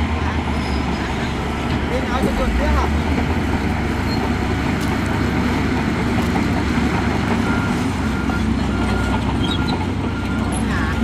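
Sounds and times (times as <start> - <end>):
diesel machinery engine rumble: 0.0 - 11.0.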